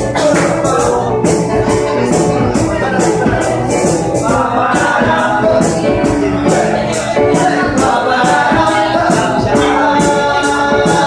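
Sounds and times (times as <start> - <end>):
double bass: 0.0 - 11.0
live band music: 0.0 - 11.0
shaker beat: 0.0 - 11.0.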